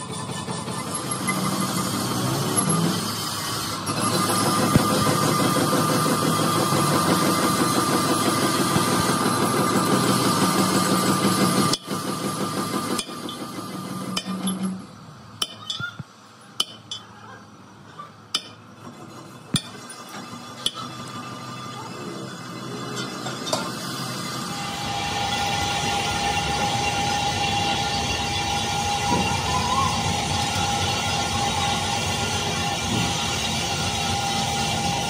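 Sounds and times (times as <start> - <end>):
workshop machinery whining: 0.0 - 35.0.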